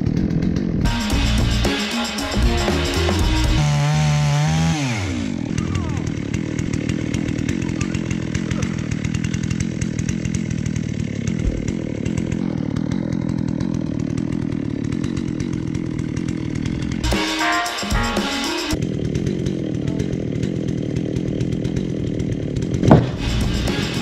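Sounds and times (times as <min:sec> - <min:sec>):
chainsaw ripping a log: 0:00.0 - 0:24.0.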